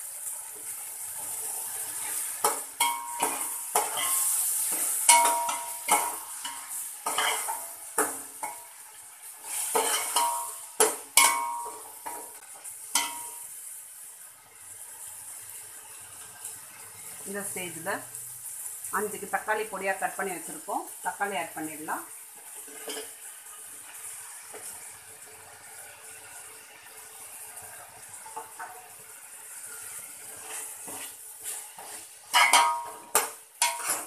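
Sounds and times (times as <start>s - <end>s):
hot oil sizzling: 0.0s - 34.0s.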